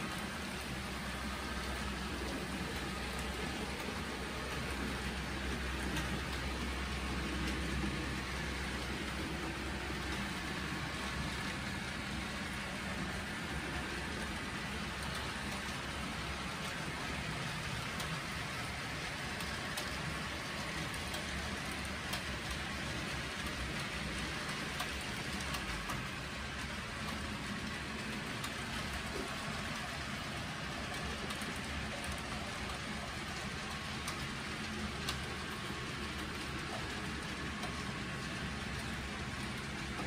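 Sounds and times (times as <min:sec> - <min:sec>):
model train wheels rumbling on track: 0:00.0 - 0:40.0.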